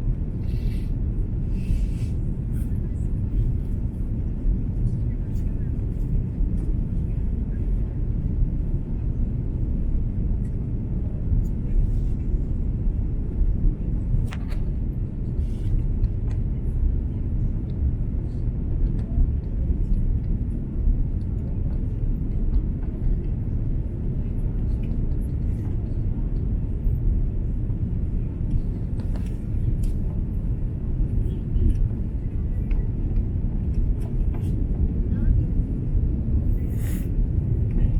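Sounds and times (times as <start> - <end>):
airliner cabin engine rumble: 0.0 - 37.9.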